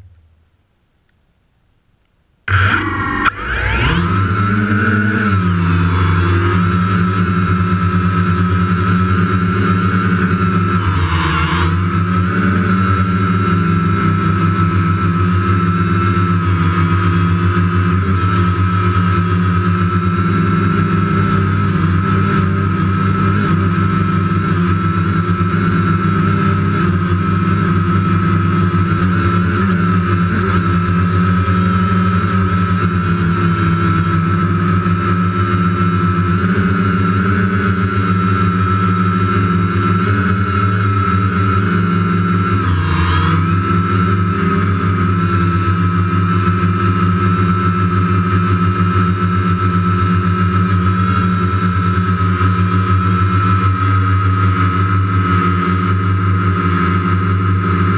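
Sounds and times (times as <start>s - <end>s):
quadcopter propellers buzzing: 2.5s - 57.9s.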